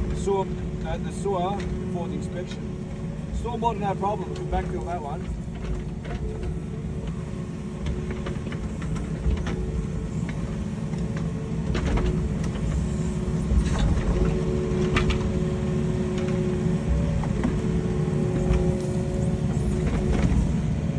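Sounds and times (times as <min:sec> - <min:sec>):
heavy machinery engine rumbling: 0:00.0 - 0:20.9.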